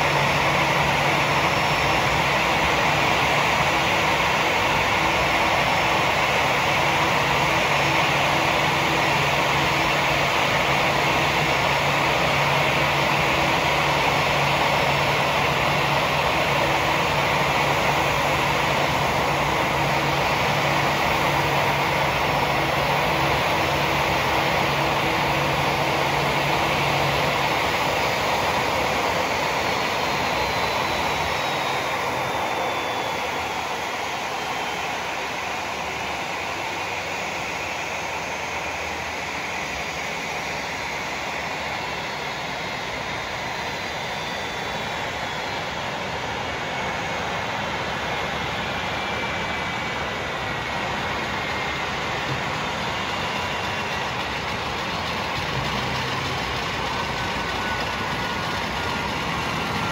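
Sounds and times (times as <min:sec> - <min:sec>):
faint high whine falling in pitch: 0:00.0 - 0:59.9
jet engines idling whine: 0:00.0 - 0:59.9.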